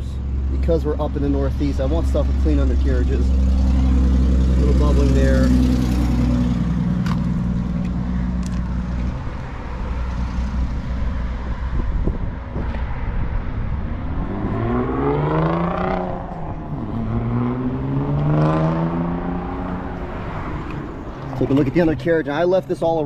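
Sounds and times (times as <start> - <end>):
vehicle engine accelerating: 0.0 - 22.1.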